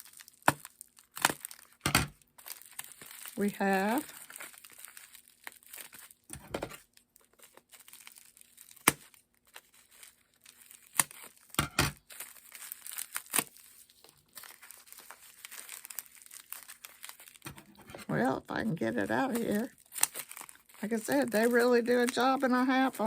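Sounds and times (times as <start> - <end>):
packing material crinkling and tearing: 0.0 - 23.0.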